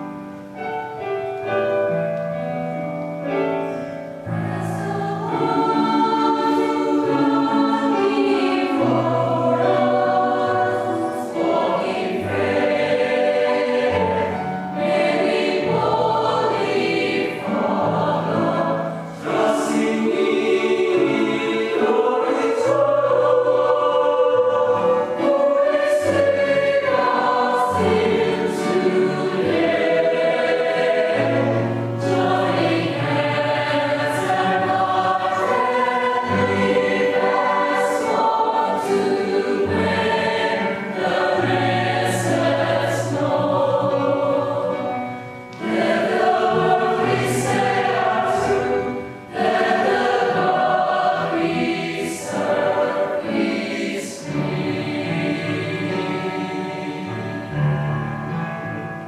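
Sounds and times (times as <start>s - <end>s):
mixed choir singing in harmony: 3.2s - 59.0s.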